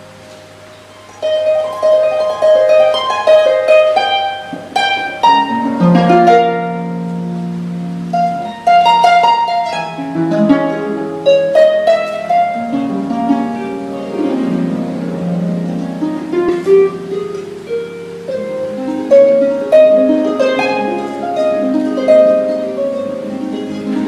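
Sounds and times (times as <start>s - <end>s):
harp playing: 0.0s - 24.0s.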